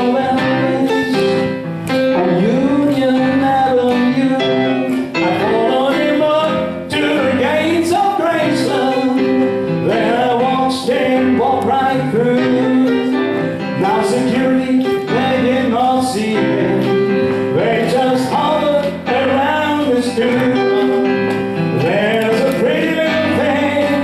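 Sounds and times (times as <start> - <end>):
vocal group singing: 0.0 - 1.5, 2.1 - 24.0
instrumental accompaniment: 0.0 - 24.0.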